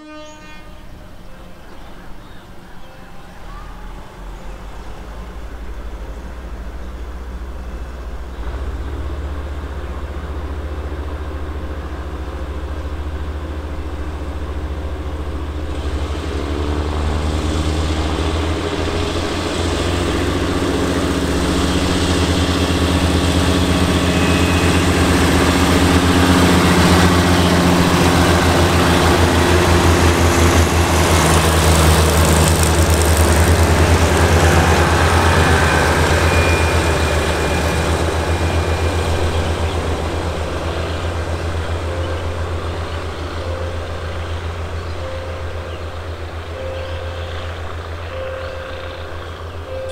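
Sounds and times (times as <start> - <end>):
diesel train engines: 0.0 - 49.9
wheels on rails: 1.3 - 49.9.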